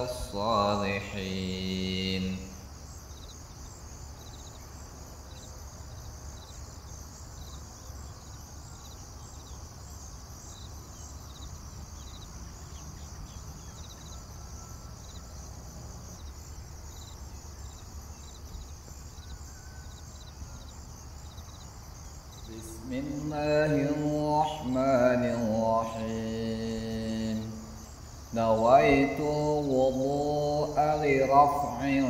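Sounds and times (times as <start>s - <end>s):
insects chirping in pulses: 0.0s - 32.0s.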